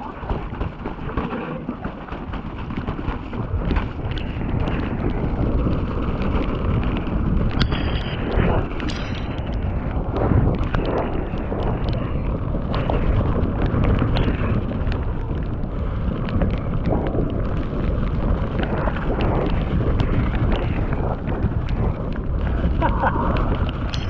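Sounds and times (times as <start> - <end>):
bike clicks and rattles: 0.0 - 24.0
bike tyre noise: 0.0 - 24.0
wind rumbling on microphone: 0.0 - 24.0.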